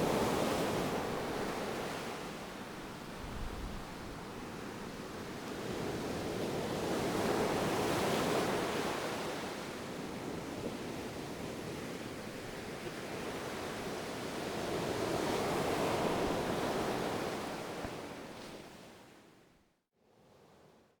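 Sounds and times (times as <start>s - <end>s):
ocean waves washing on shore: 0.0s - 18.5s.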